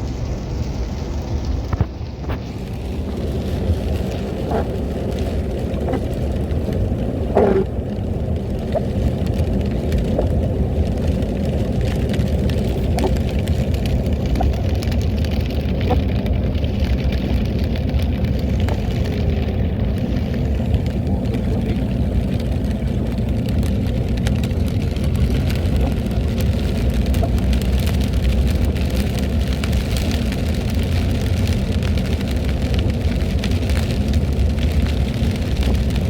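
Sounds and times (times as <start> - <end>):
car driving rumble: 0.0 - 36.0.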